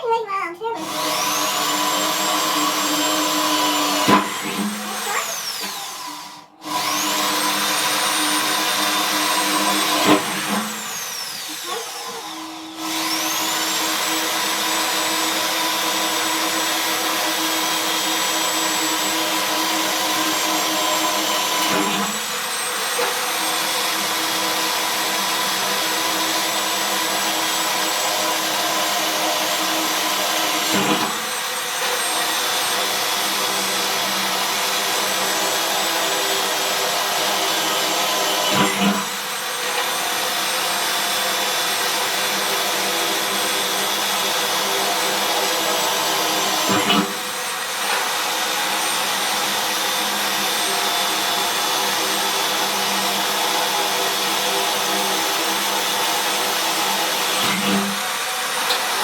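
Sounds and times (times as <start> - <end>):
electric drill whining: 0.8 - 59.0.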